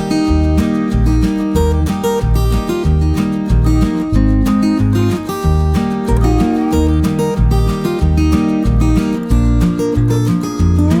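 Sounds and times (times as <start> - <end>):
strummed acoustic guitar: 0.0 - 11.0
steady bass beat: 0.1 - 11.0.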